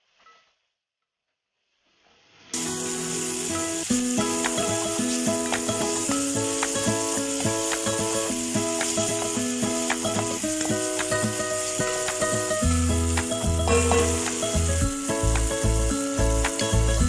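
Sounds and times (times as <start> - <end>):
vegetables frying in oil: 2.5 - 17.0
simple melody background music: 2.6 - 17.0.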